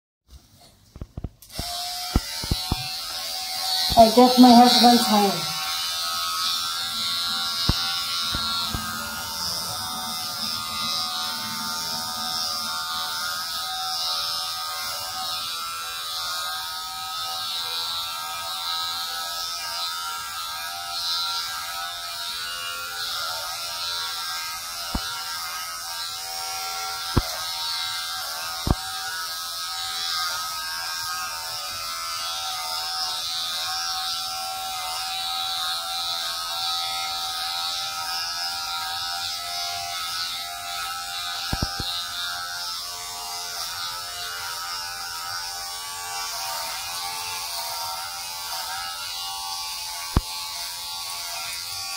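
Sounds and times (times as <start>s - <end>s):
hair clippers buzzing: 0.3s - 51.9s.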